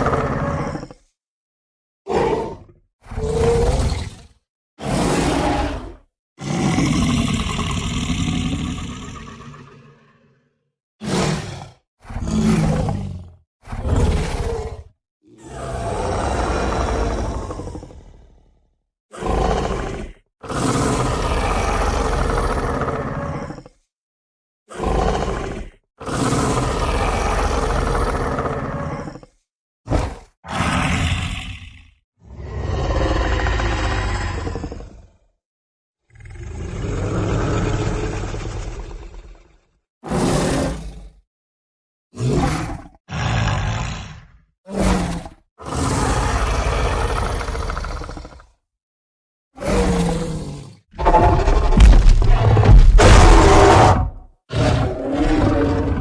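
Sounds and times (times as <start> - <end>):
dinosaur roar: 0.0 - 1.1, 2.1 - 23.9, 24.7 - 35.3, 36.0 - 41.2, 42.2 - 48.6, 49.6 - 56.0.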